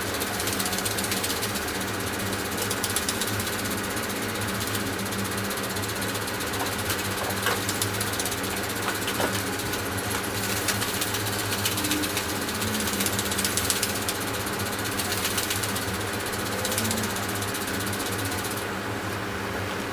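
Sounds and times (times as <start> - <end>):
robot servos whirring and ticking: 0.0 - 18.6
steady hum: 0.0 - 19.9.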